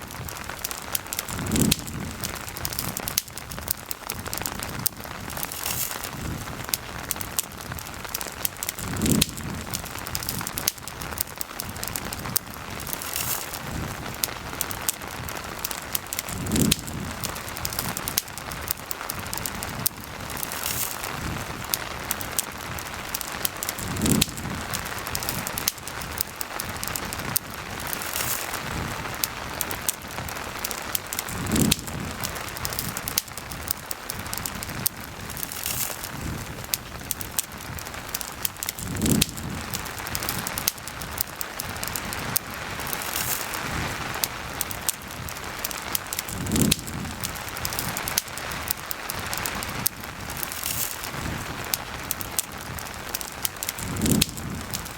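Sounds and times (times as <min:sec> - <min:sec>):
campfire crackling and popping: 0:00.0 - 0:54.9
steady rain: 0:00.0 - 0:54.9.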